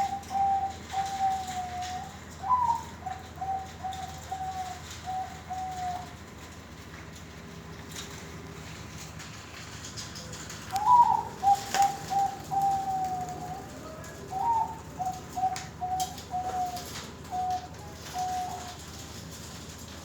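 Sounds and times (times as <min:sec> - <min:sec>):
dove cooing: 0:00.0 - 0:06.7, 0:10.2 - 0:19.7.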